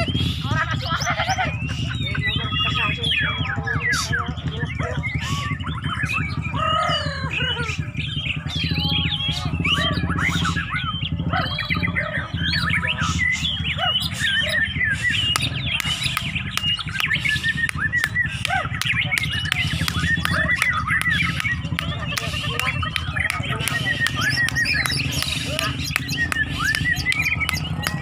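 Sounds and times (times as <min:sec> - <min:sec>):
birds singing whistles and chirps: 0:00.0 - 0:28.0.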